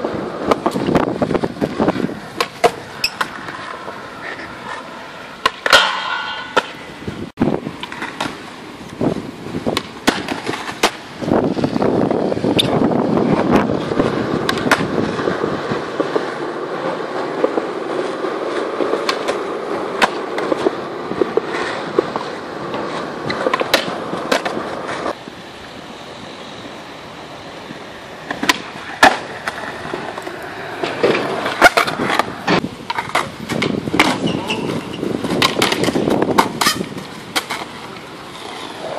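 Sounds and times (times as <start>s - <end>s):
skateboard clacks: 0.0s - 6.9s, 7.6s - 25.7s, 27.7s - 38.9s
skateboard wheels rolling on concrete: 0.0s - 38.9s.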